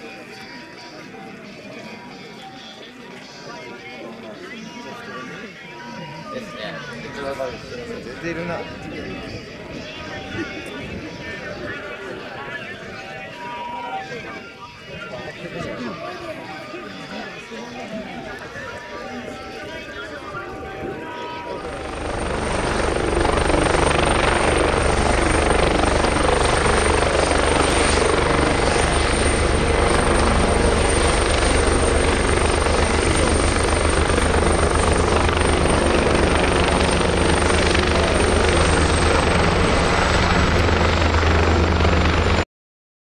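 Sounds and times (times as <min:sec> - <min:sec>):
aircraft turbine engine running: 0:07.0 - 0:42.4.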